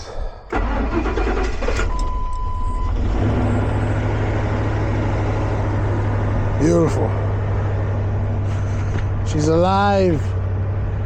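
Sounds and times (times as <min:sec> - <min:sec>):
van engine cranking and idling: 0:00.2 - 0:11.0.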